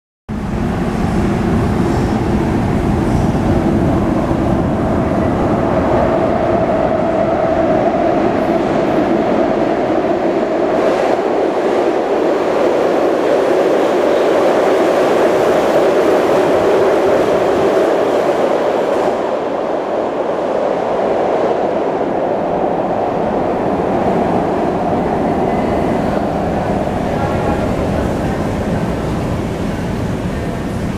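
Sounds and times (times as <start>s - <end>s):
subway train rumbling past: 0.3s - 30.9s.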